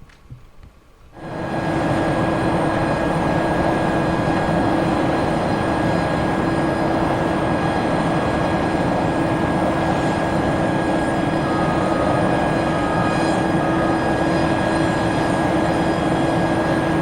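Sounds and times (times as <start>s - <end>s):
turboprop engines droning: 1.1s - 17.0s.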